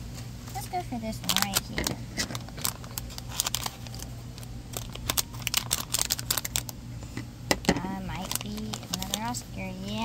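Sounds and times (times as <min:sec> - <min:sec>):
foil crinkling: 0:00.5 - 0:06.8, 0:08.0 - 0:10.0.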